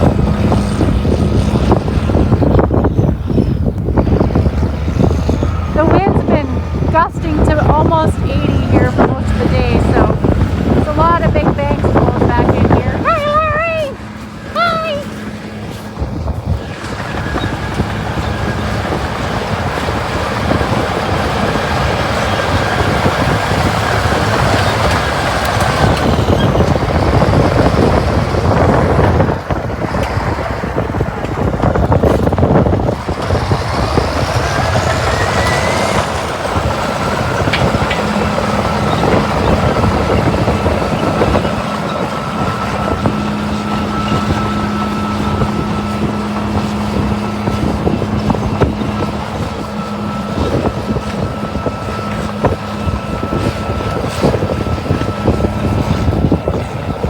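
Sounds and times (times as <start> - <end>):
diesel engine running: 0.0 - 57.0
engine whine: 0.0 - 57.0.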